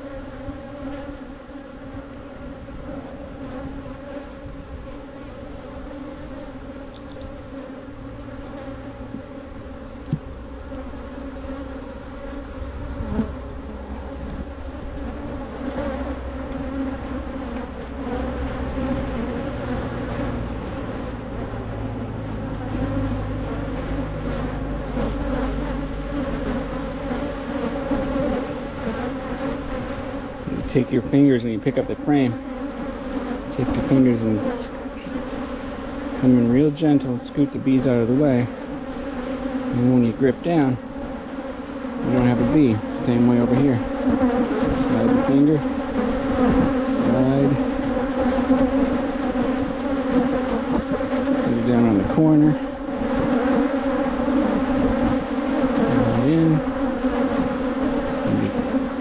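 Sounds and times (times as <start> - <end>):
honey bees buzzing: 0.0 - 59.0.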